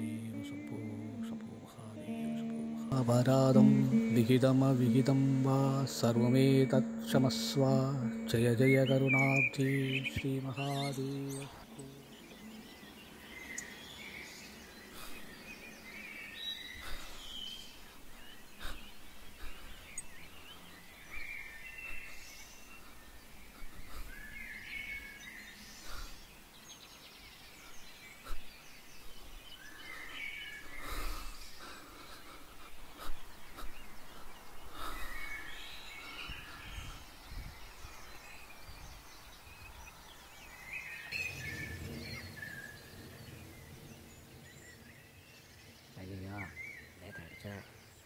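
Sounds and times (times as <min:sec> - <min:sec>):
birds chirping: 0:00.0 - 0:48.0
faint woodland background: 0:00.0 - 0:48.0.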